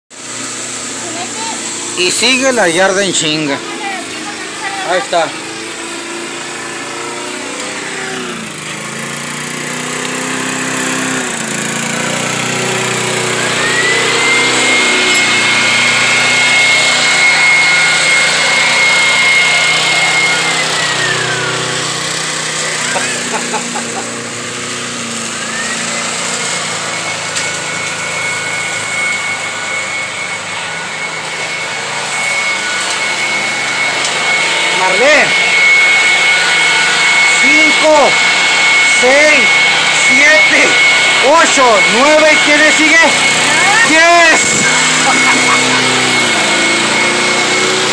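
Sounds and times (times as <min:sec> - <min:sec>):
electric leaf blower running: 0:00.1 - 0:47.9.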